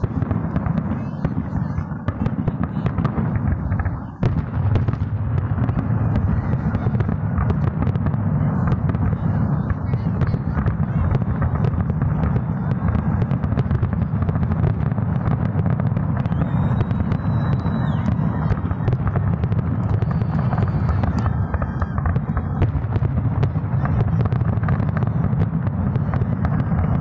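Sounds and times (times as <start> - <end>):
firework crackling pops: 0.0 - 27.0.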